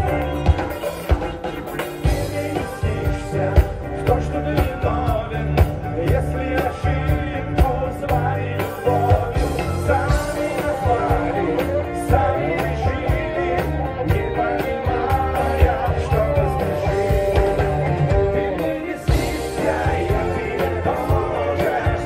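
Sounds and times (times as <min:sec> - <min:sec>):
live pop-rock band: 0:00.0 - 0:22.0
person singing: 0:00.0 - 0:22.0.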